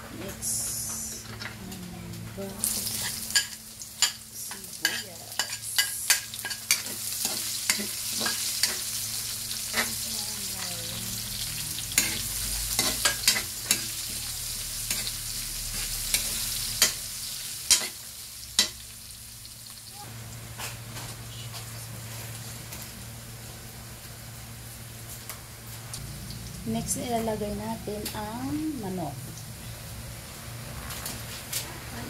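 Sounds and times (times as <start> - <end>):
onion sizzling in hot oil: 2.5 - 20.9, 22.0 - 31.2.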